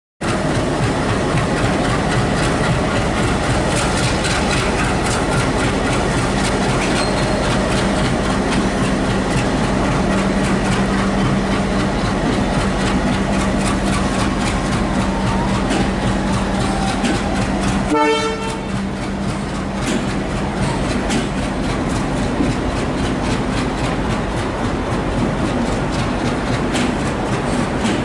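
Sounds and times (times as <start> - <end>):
locomotive diesel engine drone: 0.2 - 28.0
train wheels clicking over rail joints: 0.2 - 28.0.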